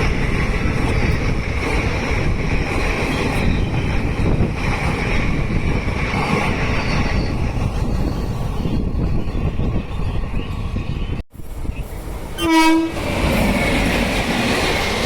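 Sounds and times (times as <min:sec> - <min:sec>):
train wheels rumbling and clattering: 0:00.0 - 0:15.0.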